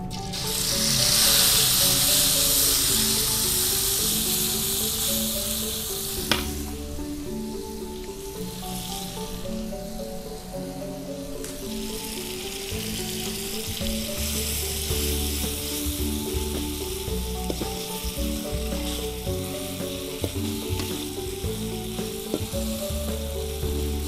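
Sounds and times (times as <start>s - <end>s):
paste sizzling in a wok: 0.0s - 24.0s
soft background music: 0.0s - 24.0s.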